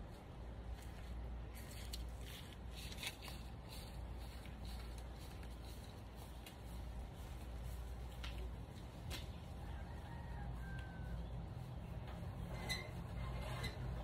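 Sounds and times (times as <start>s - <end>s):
soft rustles: 0.0s - 14.0s.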